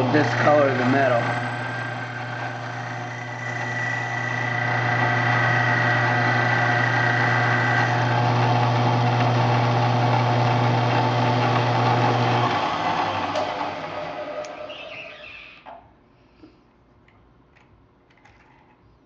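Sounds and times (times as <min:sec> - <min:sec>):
drill press motor humming: 0:00.0 - 0:15.8.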